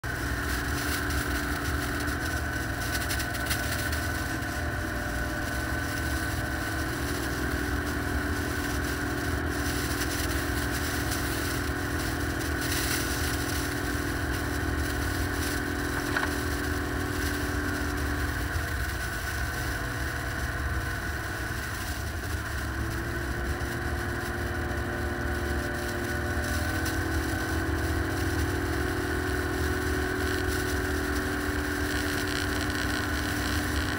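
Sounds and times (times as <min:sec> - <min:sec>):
off-road vehicle engine running: 0:00.0 - 0:33.9.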